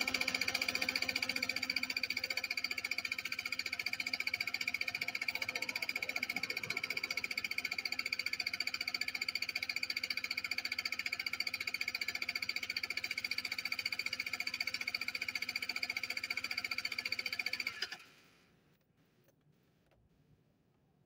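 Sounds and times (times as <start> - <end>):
scooter engine cranking: 0.0 - 18.0
starter motor whine: 0.0 - 18.0.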